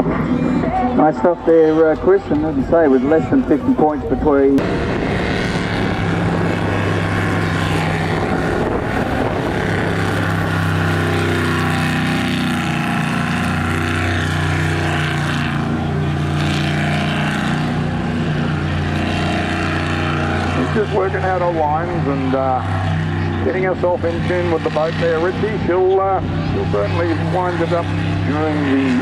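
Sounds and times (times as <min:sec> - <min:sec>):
boat engine running hard: 0:00.0 - 0:29.0.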